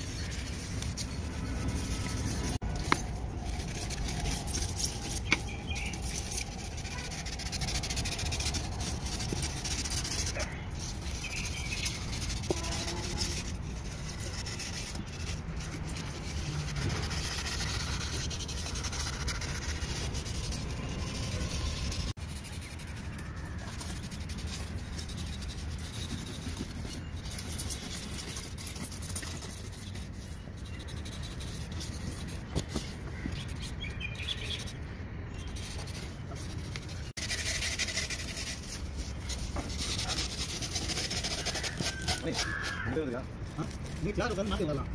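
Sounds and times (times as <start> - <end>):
knife scraping polystyrene foam: 0.0 - 34.8, 35.4 - 44.9.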